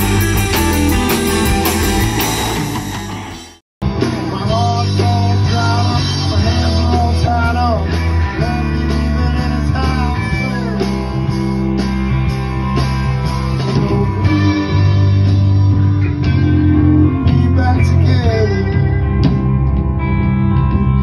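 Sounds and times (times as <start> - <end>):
electric guitar lead lines: 0.0 - 21.0
live rock band playing: 0.0 - 21.0.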